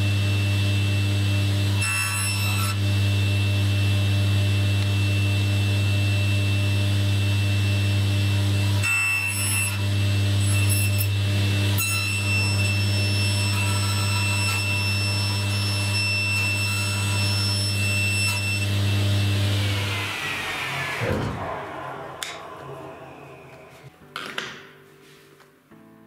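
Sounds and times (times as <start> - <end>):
saw winding down whine: 0.0 - 24.1
table saw motor hum: 0.0 - 24.1.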